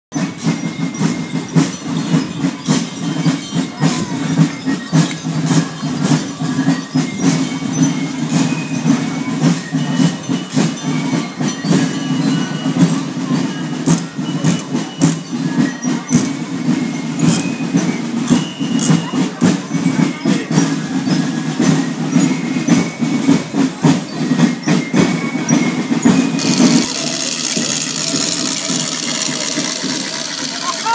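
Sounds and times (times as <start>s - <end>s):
costume bells jingling: 0.1s - 30.9s.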